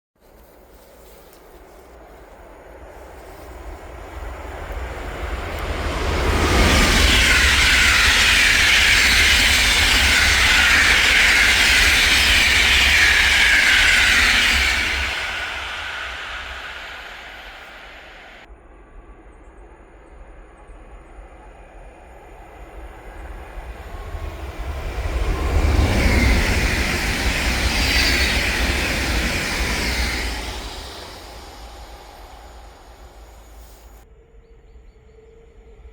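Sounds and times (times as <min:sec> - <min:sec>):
train passing at speed: 0:00.3 - 0:34.2.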